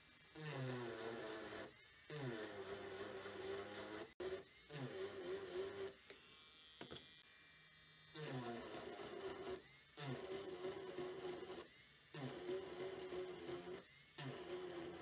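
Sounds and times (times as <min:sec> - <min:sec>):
motor whine: 0:00.0 - 0:15.0
rotary tool cutting wood: 0:00.3 - 0:07.5, 0:08.2 - 0:15.0.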